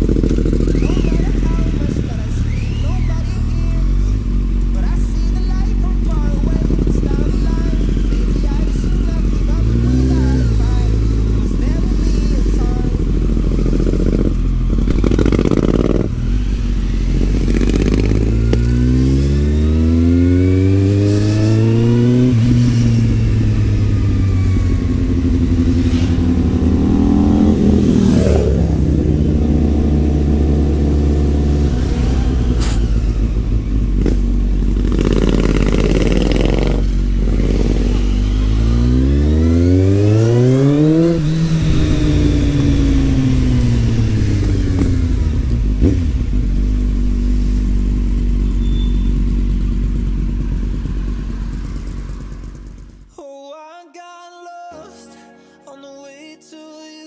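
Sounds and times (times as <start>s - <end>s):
motorcycle engine revving: 0.0s - 53.1s.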